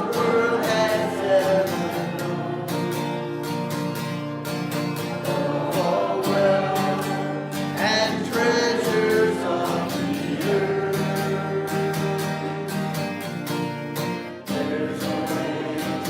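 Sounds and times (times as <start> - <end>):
person singing: 0.0 - 4.0, 5.1 - 13.2, 14.5 - 16.0
acoustic guitar strumming: 0.0 - 16.0.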